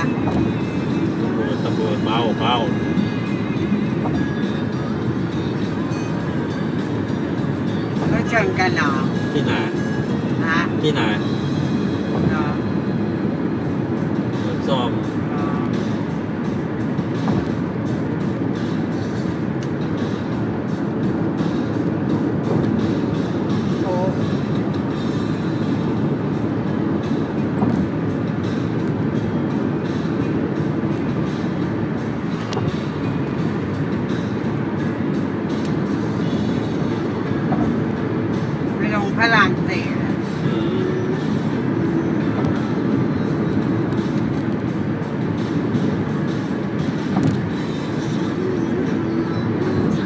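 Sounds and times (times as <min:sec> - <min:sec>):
car cabin road and engine rumble: 0:00.0 - 0:50.0.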